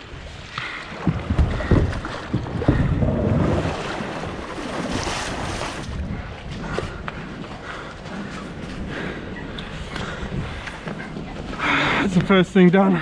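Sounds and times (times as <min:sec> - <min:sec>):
sea water sloshing around kayak: 0:00.0 - 0:12.4
wind buffeting microphone: 0:00.0 - 0:13.0.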